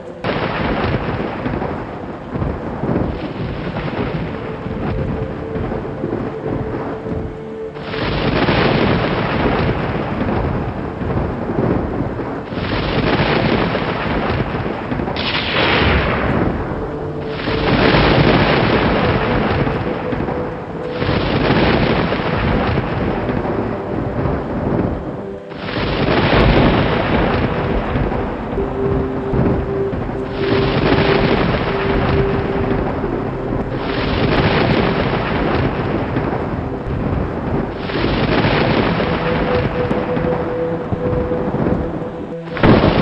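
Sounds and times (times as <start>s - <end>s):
rain: 0.0s - 43.0s.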